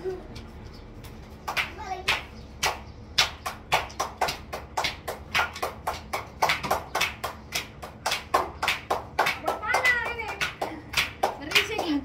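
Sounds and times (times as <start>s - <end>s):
hands clapping rapidly: 1.4s - 12.0s.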